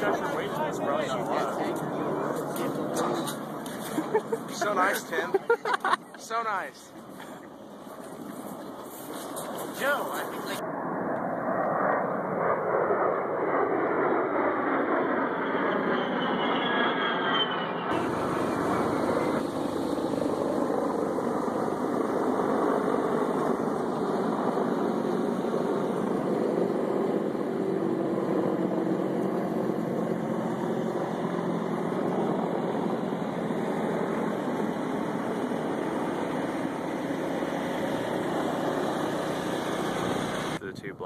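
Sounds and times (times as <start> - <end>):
helicopters flying over: 0.0 - 41.0.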